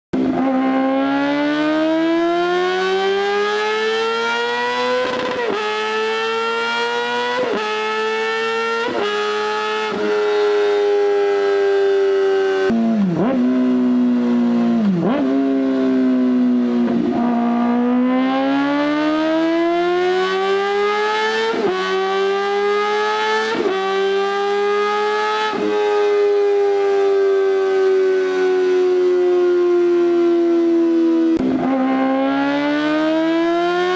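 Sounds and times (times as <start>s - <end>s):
motorcycle engine revving high: 0.2s - 33.9s.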